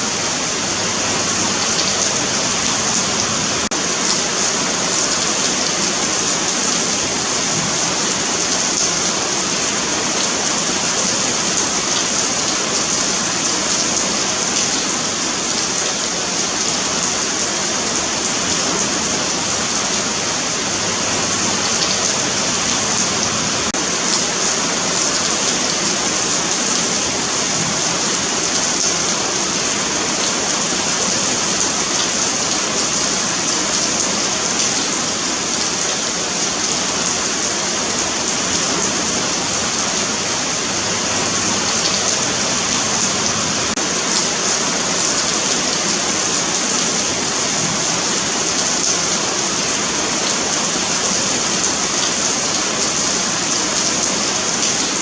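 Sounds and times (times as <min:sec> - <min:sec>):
rain on pavement: 0:00.0 - 0:55.0.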